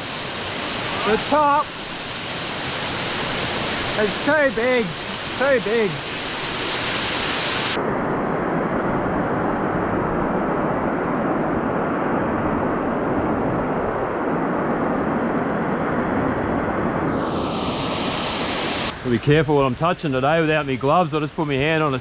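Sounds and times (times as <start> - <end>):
muffled waterfall rushing: 0.0 - 22.0.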